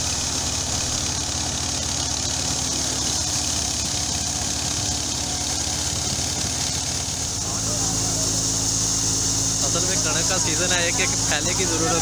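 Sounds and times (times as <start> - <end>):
diesel engine hum: 0.0 - 12.0
thresher hiss: 0.0 - 12.0.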